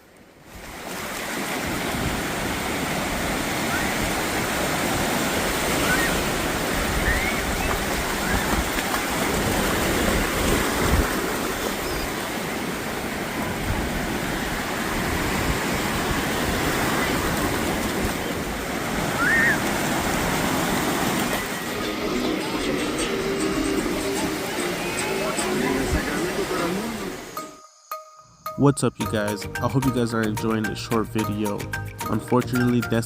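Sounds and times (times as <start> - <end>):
ocean surf washing onto beach: 0.0 - 27.6.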